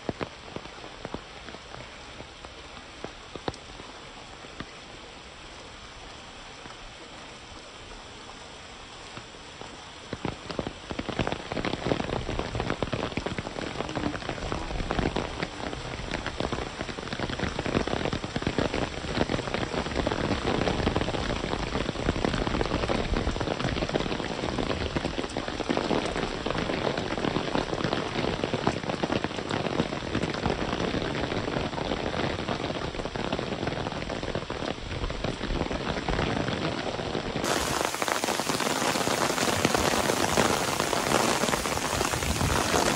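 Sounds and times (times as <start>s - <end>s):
rain falling steadily: 0.0s - 42.9s.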